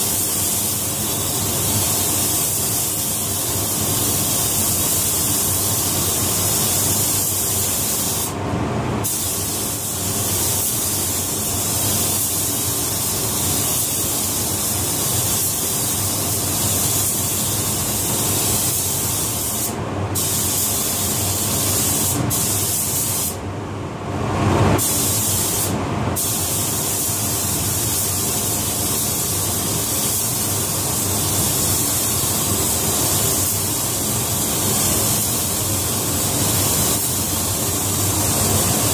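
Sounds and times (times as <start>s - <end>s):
paint spray gun hissing: 0.0s - 8.4s, 9.0s - 23.4s, 24.8s - 38.9s.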